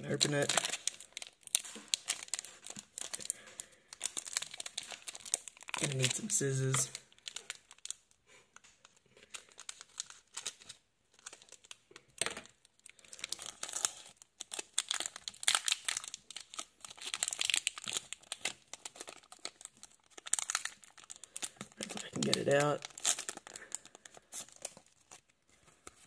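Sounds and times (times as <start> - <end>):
foil wrapper crinkling and tearing: 0.0 - 26.0.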